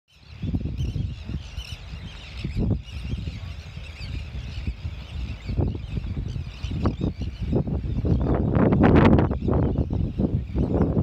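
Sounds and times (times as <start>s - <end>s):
distant high-pitched bird calls: 0.1s - 11.0s
wind gusting on microphone: 0.1s - 11.0s.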